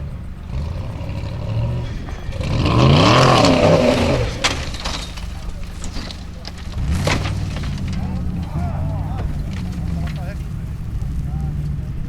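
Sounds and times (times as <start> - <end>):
off-road car engine revving: 0.0 - 12.0.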